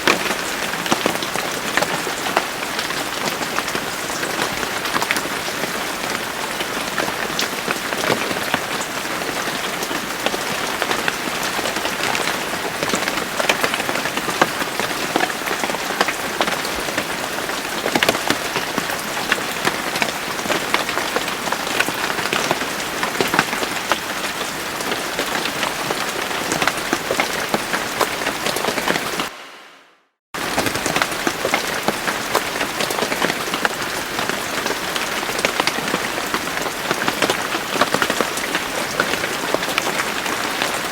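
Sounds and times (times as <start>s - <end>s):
steady rain: 0.0s - 29.6s, 30.4s - 40.9s.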